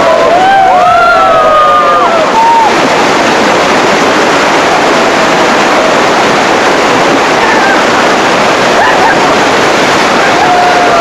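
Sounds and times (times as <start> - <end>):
river water rushing over weir: 0.0 - 11.0.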